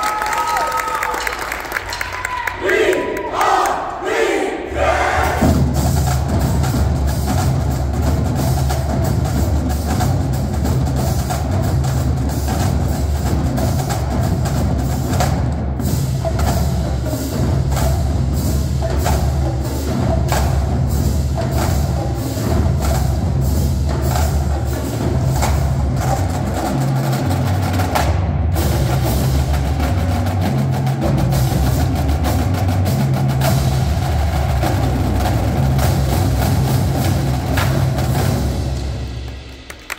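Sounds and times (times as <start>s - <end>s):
cymbals: 0.0s - 39.9s
snare drums: 0.0s - 39.9s
tenor drums: 0.0s - 39.9s.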